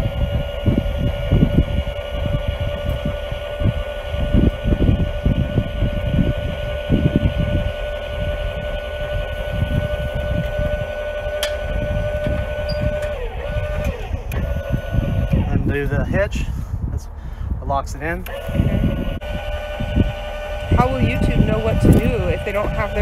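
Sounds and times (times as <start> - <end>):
electric motor whining: 0.0 - 16.3, 18.0 - 23.0
low rumble with thumps: 0.0 - 23.0.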